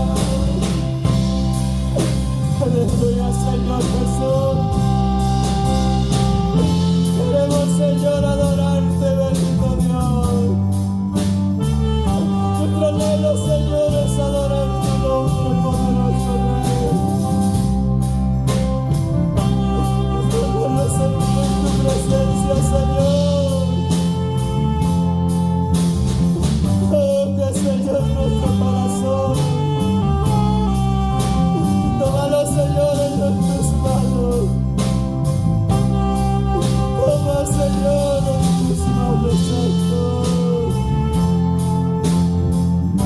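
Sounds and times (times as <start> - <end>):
live worship band music: 0.0 - 43.0.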